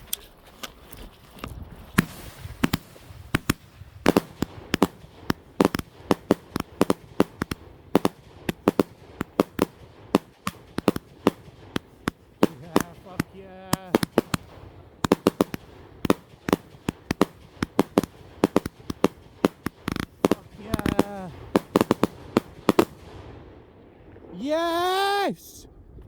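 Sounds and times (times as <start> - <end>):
fireworks bangs: 1.8 - 23.5, 24.3 - 25.6.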